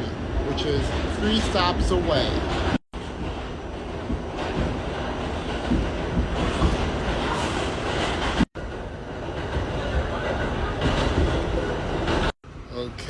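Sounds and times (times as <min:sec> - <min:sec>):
subway wheels rumbling on rails: 0:00.0 - 0:13.0.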